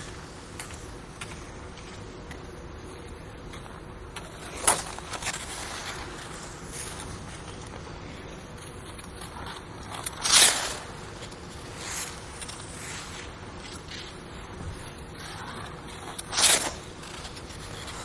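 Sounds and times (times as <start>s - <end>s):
ice skate blades gliding: 0.0s - 18.0s
skate blade scraping ice: 0.0s - 18.0s.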